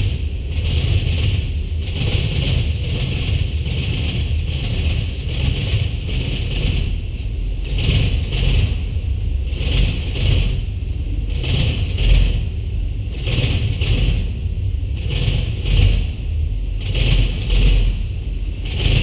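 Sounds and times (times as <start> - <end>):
freight train low rumble: 0.0 - 19.0.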